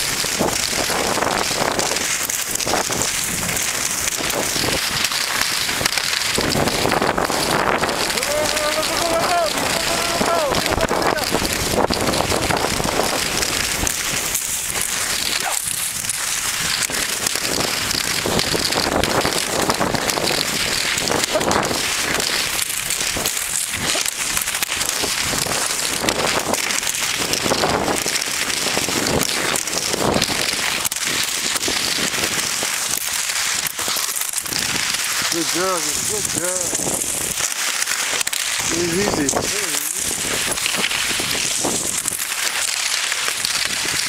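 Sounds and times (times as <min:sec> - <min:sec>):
skis scraping over snow: 0:00.0 - 0:44.0.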